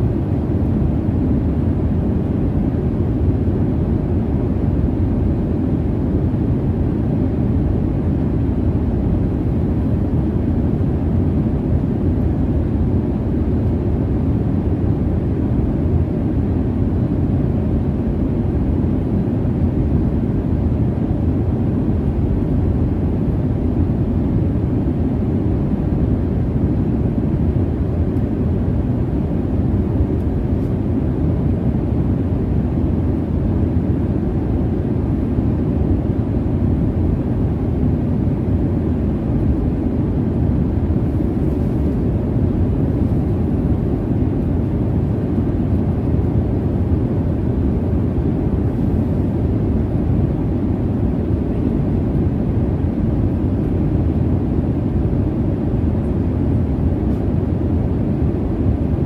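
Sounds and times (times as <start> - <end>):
airliner cabin jet engine rumble: 0.0 - 59.0.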